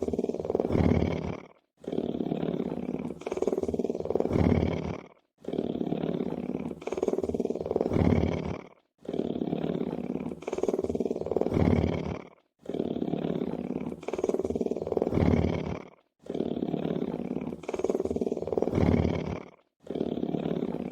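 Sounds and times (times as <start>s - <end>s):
lion purring: 0.0s - 20.9s.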